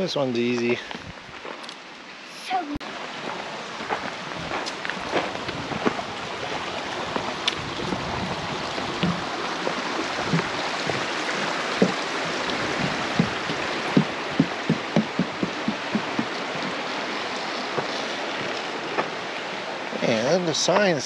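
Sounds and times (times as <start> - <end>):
footsteps on rocky trail: 0.6 - 1.8, 3.2 - 19.2.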